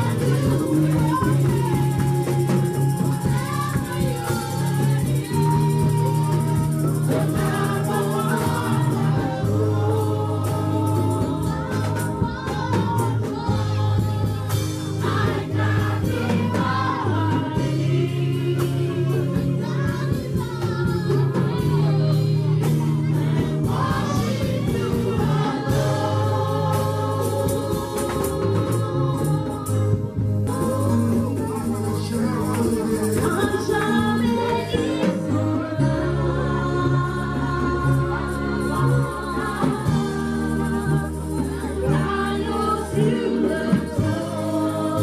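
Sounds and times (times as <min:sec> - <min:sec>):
group singing gospel song: 0:00.0 - 0:45.0.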